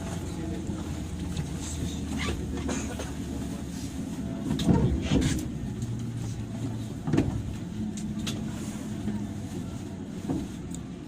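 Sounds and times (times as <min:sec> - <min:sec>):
electric train interior hum: 0:00.0 - 0:11.0.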